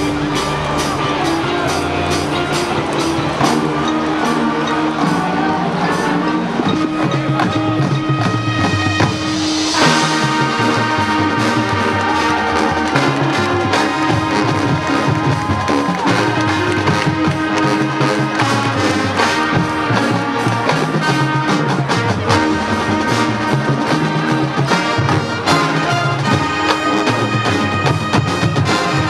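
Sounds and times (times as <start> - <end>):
brass band loud chords: 0.0 - 29.0
percussion hits: 0.0 - 29.0.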